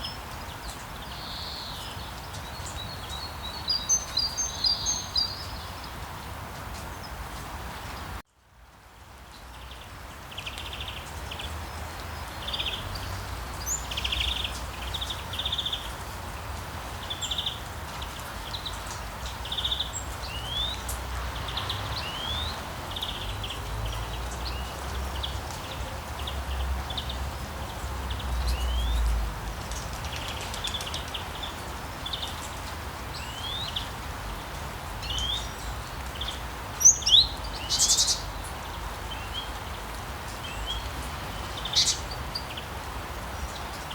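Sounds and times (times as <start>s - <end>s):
rain hiss: 0.0s - 43.9s
songbirds chirping: 0.0s - 43.9s.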